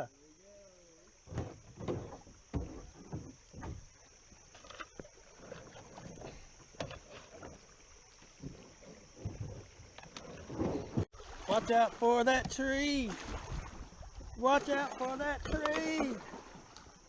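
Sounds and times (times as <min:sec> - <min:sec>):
paddle splashing in water: 0:01.0 - 0:17.0.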